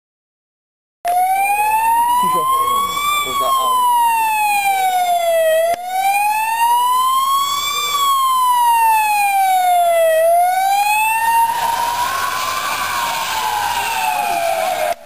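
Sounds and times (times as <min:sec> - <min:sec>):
ambulance siren wailing: 0:01.1 - 0:15.0.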